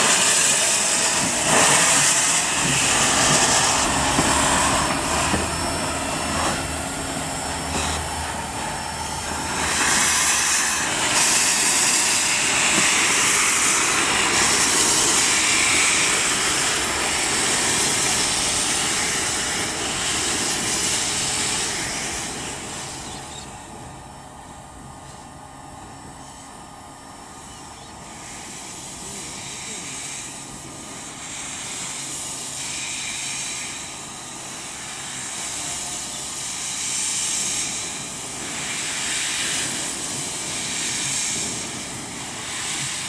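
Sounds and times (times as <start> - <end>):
loud steam hissing: 0.0 - 43.0
steam locomotive moving: 0.0 - 43.0.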